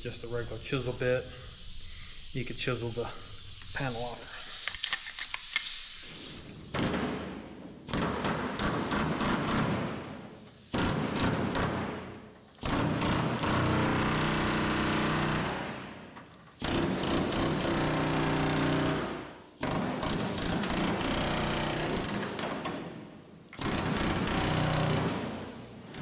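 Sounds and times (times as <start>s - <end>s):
pneumatic air hammer on steel: 0.4s - 26.0s.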